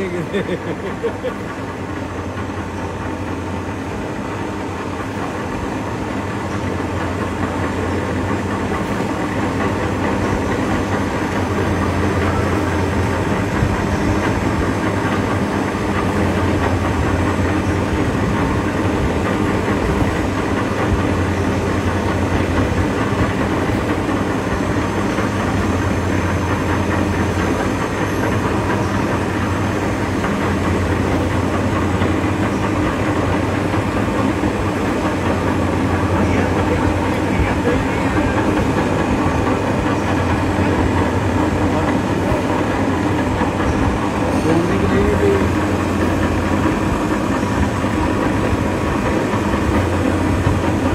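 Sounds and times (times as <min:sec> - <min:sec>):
thread rolling machine running: 0:00.0 - 0:50.9.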